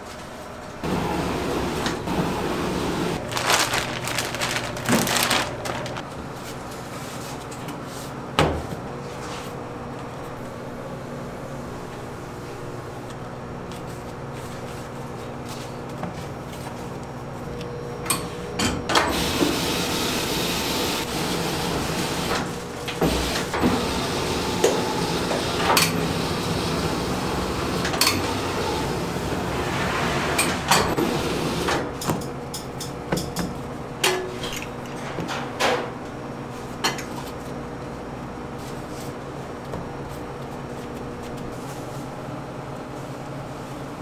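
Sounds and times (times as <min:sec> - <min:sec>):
faint machine hum: 0:00.0 - 0:44.0.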